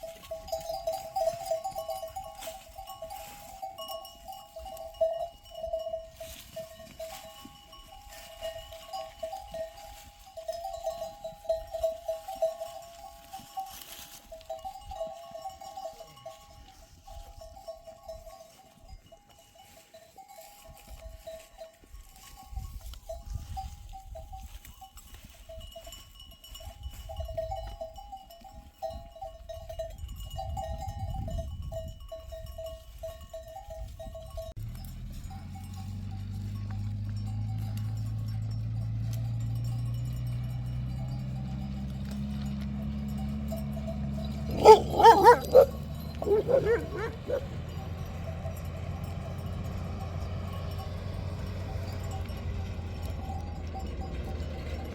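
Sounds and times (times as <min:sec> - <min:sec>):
livestock bells jingling: 0:00.0 - 0:54.9.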